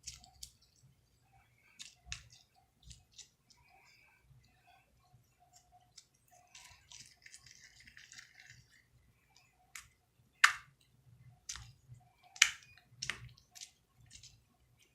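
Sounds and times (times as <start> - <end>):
slime squelching: 0.0 - 14.9.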